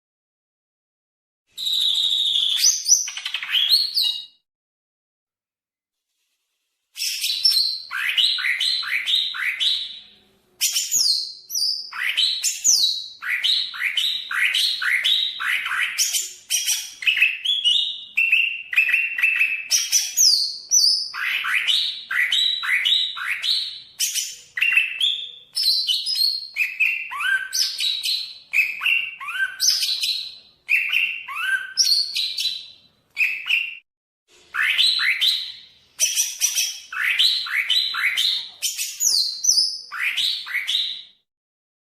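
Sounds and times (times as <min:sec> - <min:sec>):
bird whistling song: 0:01.5 - 0:04.4, 0:07.0 - 0:33.8, 0:34.5 - 0:41.2.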